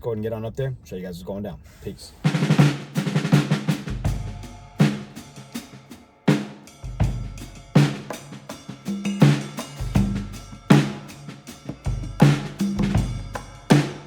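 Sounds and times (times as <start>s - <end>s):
cymbal crashes: 2.3s - 14.0s.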